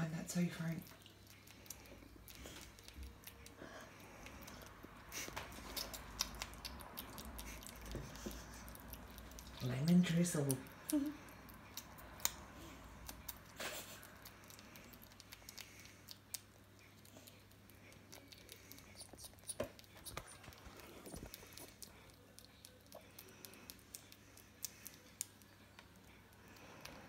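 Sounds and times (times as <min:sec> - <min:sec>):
squirrel teeth clicking: 0:00.6 - 0:27.0.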